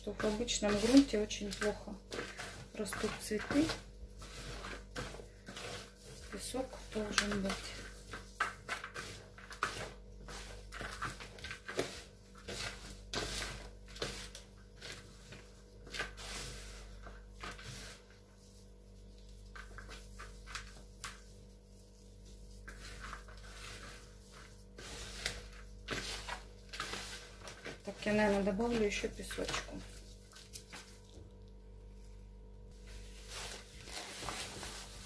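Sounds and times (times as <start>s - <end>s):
rustling and scraping of soil: 0.0s - 35.0s.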